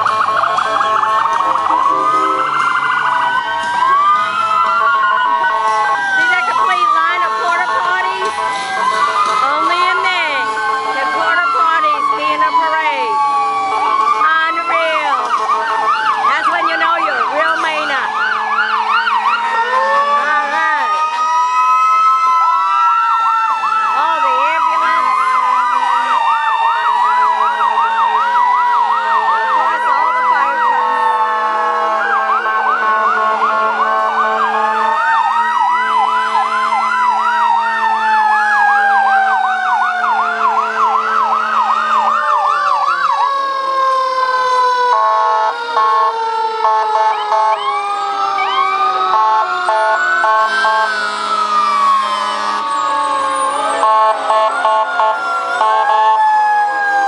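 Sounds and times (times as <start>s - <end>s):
fire truck sirens wailing: 0.0s - 57.0s
pulsing siren tone: 0.0s - 57.0s
siren yelp: 0.0s - 57.0s.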